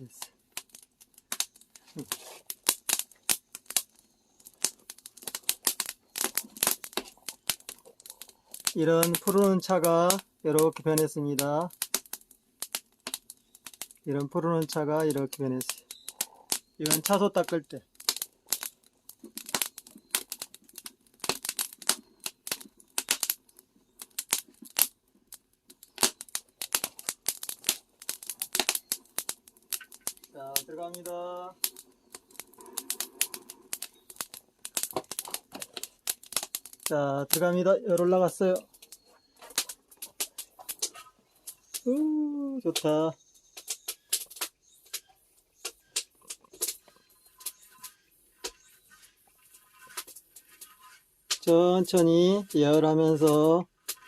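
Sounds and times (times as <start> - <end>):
firewood crackling and popping: 0.0 - 54.0
tea leaves crinkling and rustling: 0.0 - 54.0.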